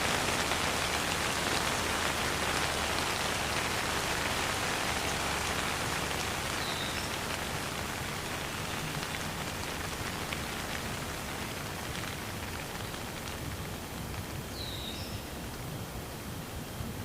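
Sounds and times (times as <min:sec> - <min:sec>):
rain pattering: 0:00.0 - 0:16.6.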